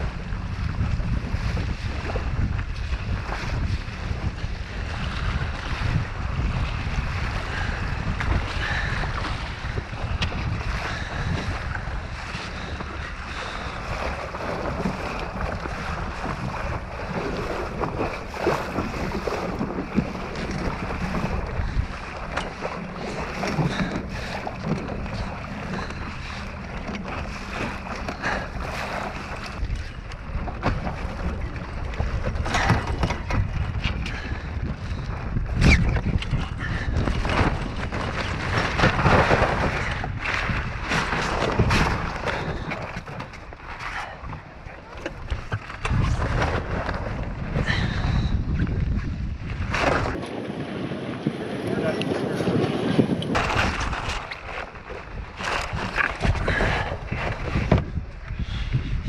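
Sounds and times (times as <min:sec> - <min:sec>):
water slapping along hull: 0:00.0 - 0:59.0
wind buffeting microphone: 0:00.0 - 0:59.0.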